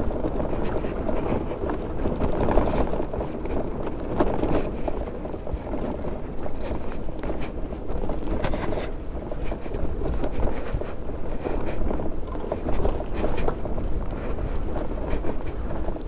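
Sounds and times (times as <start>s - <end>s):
scooter bodywork rattling: 0.0s - 16.0s.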